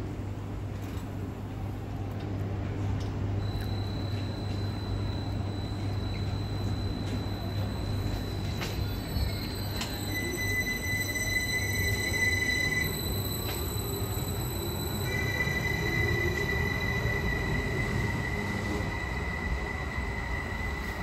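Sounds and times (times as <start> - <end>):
electric train accelerating: 3.4 - 21.0
rising whine: 3.4 - 21.0.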